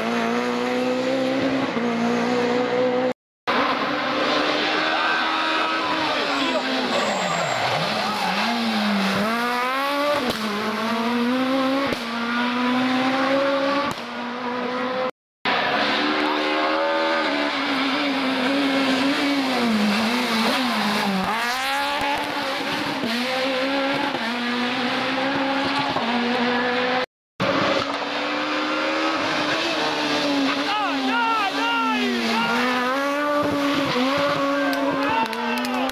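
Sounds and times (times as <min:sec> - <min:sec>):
rally car engines revving: 0:00.0 - 0:35.9.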